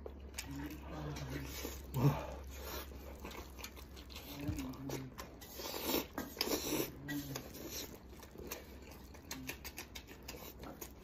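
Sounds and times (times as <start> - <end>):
wet smacking and slurping: 0.0 - 11.0
man sucking and chewing: 1.2 - 11.0.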